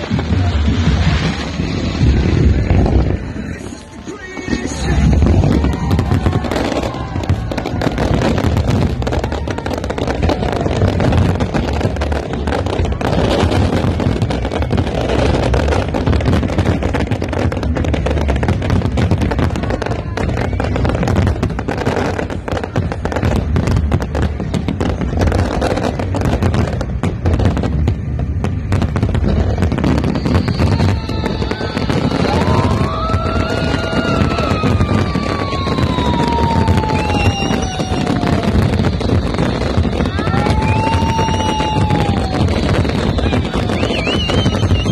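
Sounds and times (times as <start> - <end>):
fireworks bangs and crackling: 0.0 - 44.9
fireworks whistles: 0.0 - 44.9.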